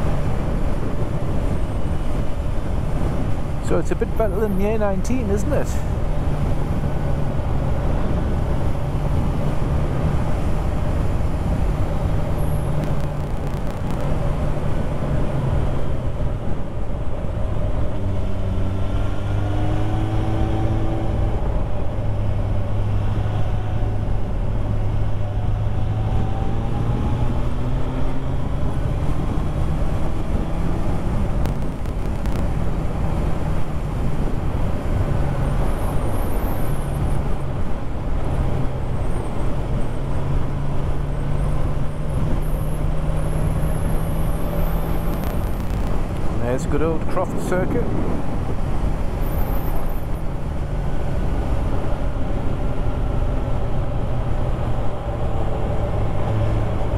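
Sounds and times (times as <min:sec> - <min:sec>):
wind and road noise: 0:00.0 - 0:56.9.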